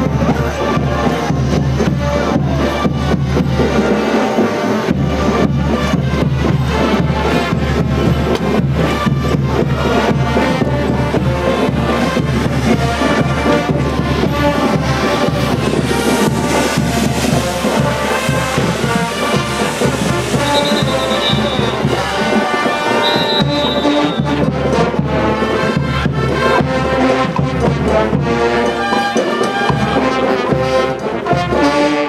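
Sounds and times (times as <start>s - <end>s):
pounding drum beat: 0.0s - 31.8s
brass band playing: 0.0s - 32.0s.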